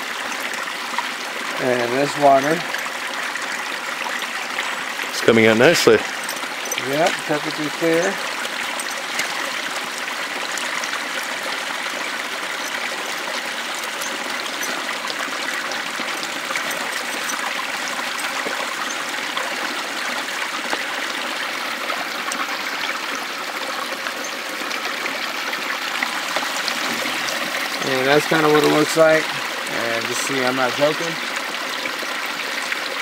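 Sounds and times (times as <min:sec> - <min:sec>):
creek water running over rocks: 0:00.0 - 0:33.0.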